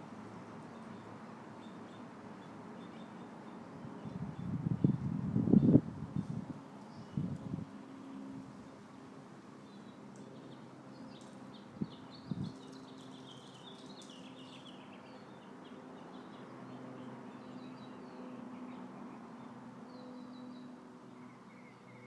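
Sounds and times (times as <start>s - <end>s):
small birds chirping: 0.5s - 7.5s, 9.6s - 22.0s.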